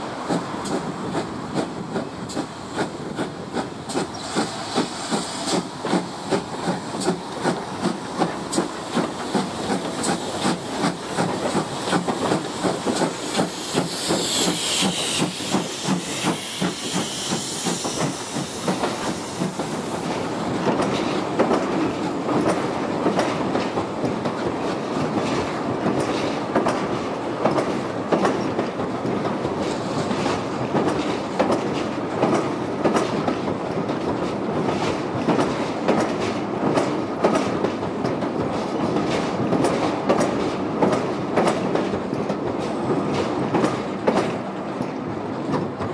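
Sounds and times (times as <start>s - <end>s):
train rolling rumble: 0.0s - 45.9s
train wheels clicking over rail joints: 0.0s - 45.9s.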